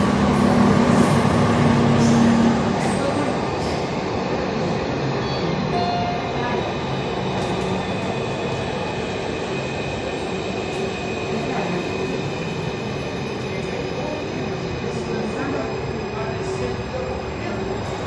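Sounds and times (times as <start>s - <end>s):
train rushing noise: 0.0s - 18.0s.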